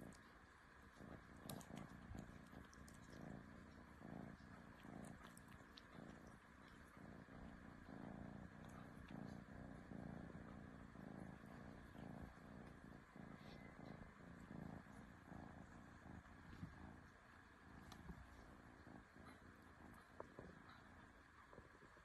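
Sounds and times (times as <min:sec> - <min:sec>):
kitten purring: 0:00.0 - 0:22.0.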